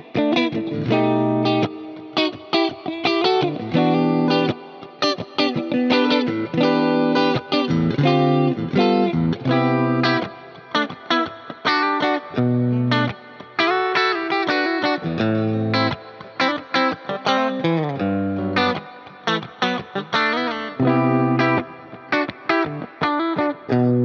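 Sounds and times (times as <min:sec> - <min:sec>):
electric guitar playing: 0:00.0 - 0:24.0.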